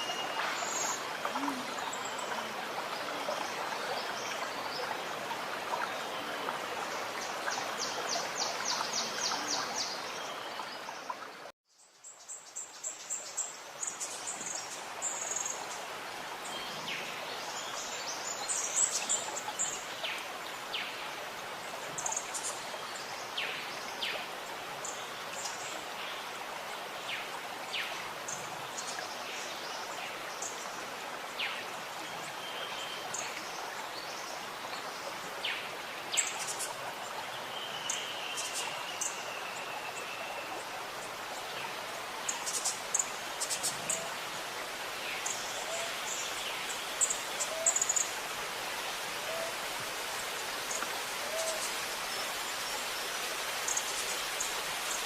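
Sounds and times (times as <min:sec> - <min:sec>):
stream gurgling: 0:00.0 - 0:11.6, 0:12.3 - 0:55.0.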